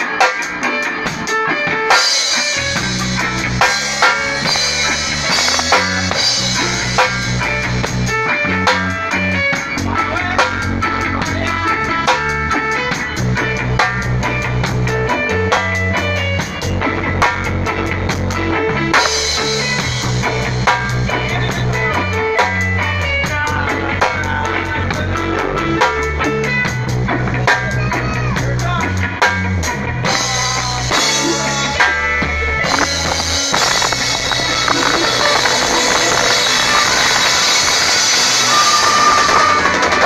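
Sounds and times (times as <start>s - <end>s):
drums: 0.0s - 40.0s
electric guitar: 0.0s - 40.0s
keyboard: 0.0s - 40.0s
low bass line: 2.5s - 40.0s.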